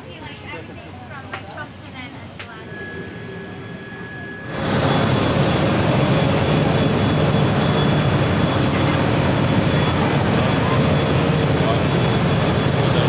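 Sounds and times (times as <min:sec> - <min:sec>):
thin steady whine: 0:00.0 - 0:13.0
jet turbine roar: 0:01.7 - 0:13.0.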